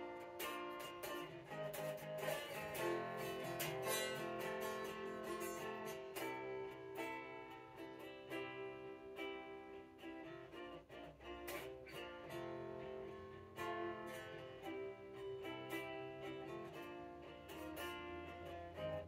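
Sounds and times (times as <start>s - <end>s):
unplugged electric guitar picking: 0.0s - 19.0s.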